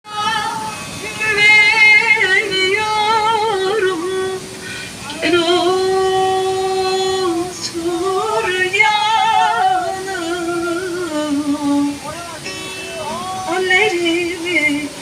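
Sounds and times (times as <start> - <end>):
woman singing: 0.1 - 12.0, 13.1 - 15.0.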